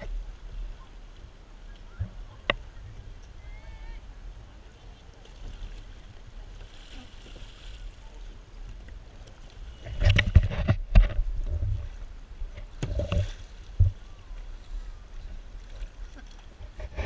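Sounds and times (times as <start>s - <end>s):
water splashing against kayak hulls: 0.0s - 17.0s.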